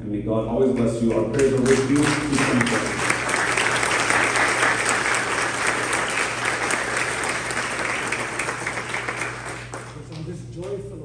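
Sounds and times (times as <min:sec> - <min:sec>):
crowd applauding: 0:00.8 - 0:10.3.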